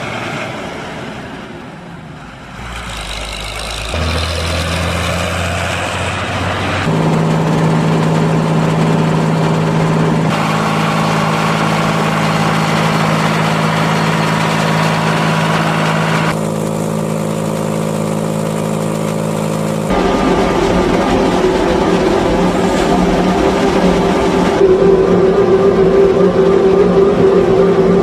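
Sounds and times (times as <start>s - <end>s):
tractor driving past: 0.0s - 28.0s
forage harvester running: 2.6s - 28.0s.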